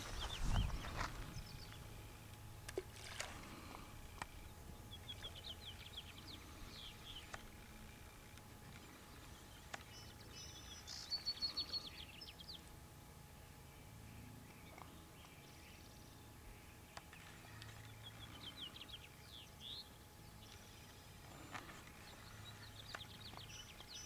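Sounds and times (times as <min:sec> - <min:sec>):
songbird chirps and trills: 0:00.0 - 0:02.6, 0:03.5 - 0:24.0
faint outdoor background noise: 0:00.0 - 0:24.0.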